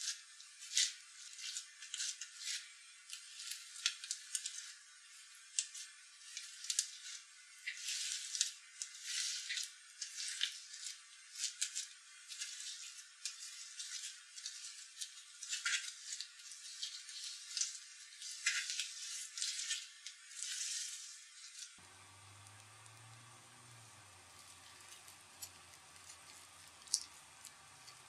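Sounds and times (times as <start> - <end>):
slime crackling and squishing: 5.4 - 28.0.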